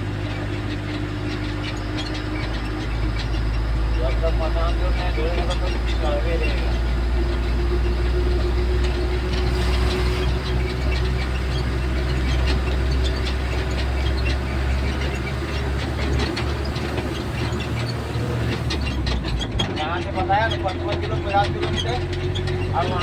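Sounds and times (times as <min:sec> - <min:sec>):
vehicle engine rumbling: 0:00.0 - 0:23.0
light rattling: 0:00.3 - 0:23.0.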